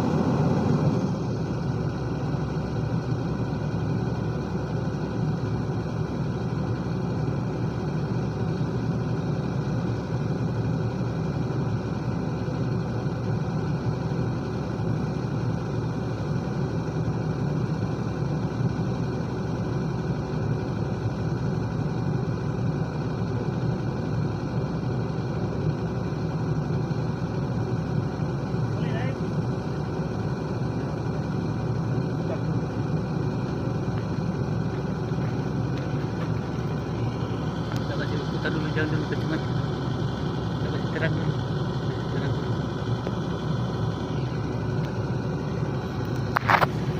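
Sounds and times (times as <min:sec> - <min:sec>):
excavator diesel engine rumbling: 0:00.0 - 0:46.9.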